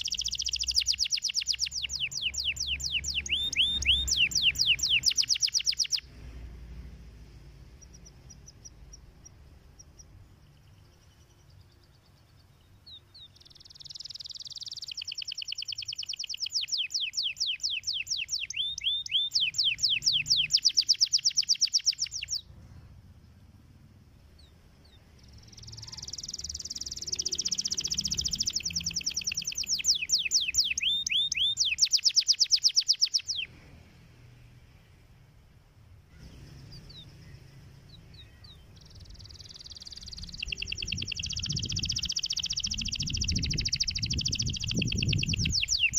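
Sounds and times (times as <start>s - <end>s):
canary singing trills: 0.0s - 6.1s, 6.7s - 22.6s, 23.2s - 33.6s, 36.1s - 45.9s.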